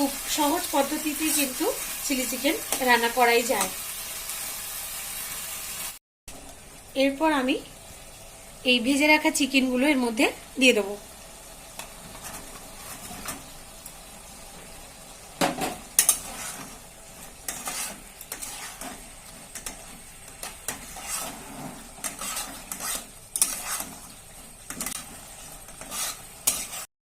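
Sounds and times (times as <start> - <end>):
frying sizzle: 0.0 - 26.9.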